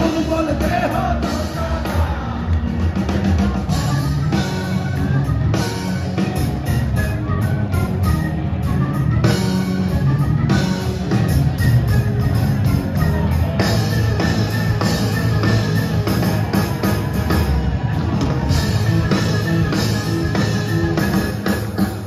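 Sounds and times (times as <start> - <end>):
drum kit beat: 0.0 - 22.0
electric guitars: 0.0 - 22.0.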